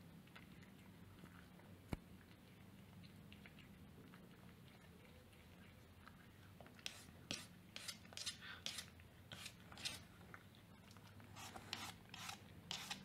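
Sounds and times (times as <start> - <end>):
cat licking: 0.0 - 13.0.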